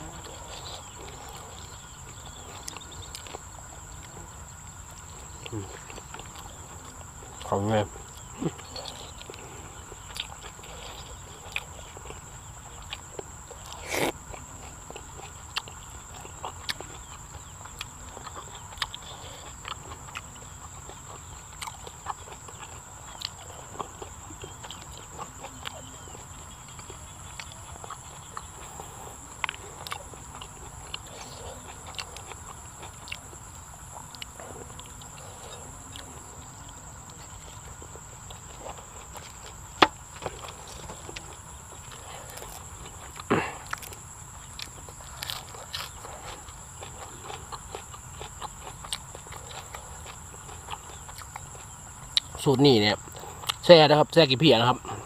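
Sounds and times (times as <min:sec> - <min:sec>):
wet chewing and lip smacks: 0:00.0 - 0:52.4, 0:53.0 - 0:53.7.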